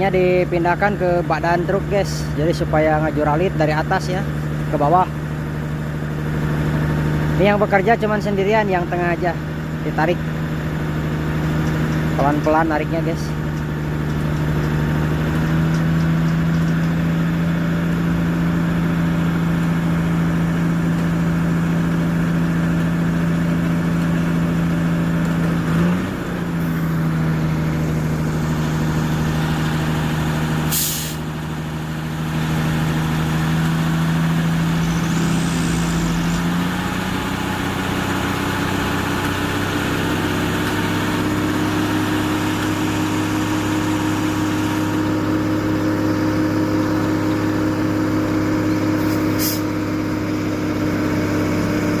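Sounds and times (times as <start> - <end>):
diesel truck engine running: 0.0 - 52.0.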